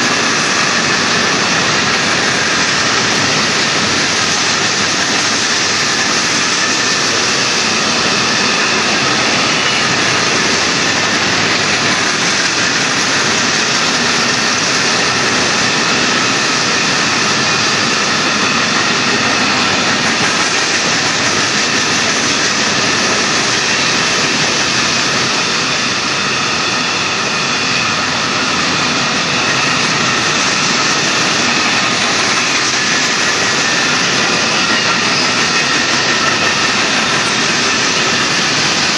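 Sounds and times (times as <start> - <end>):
steel train wheels on rail: 0.0 - 38.9.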